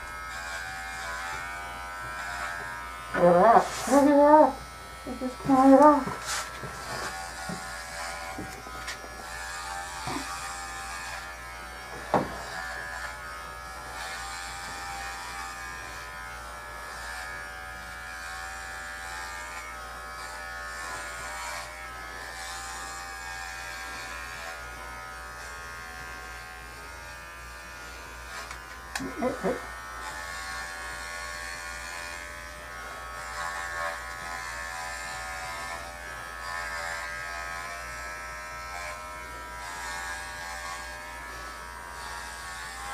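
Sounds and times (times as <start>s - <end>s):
pet clippers buzzing: 0.0s - 42.9s.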